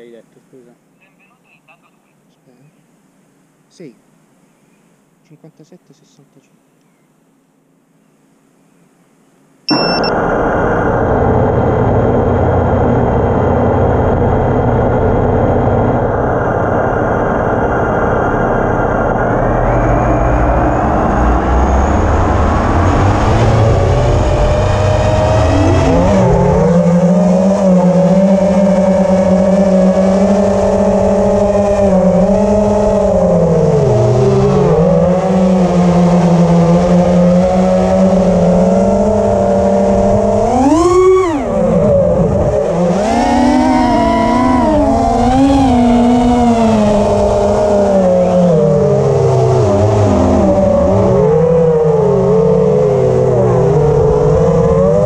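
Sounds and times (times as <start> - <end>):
drone motors whining: 9.7 - 55.0.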